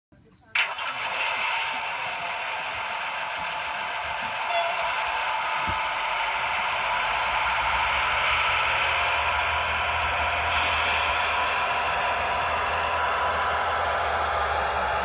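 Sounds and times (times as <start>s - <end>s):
model train motor humming: 0.5s - 15.0s.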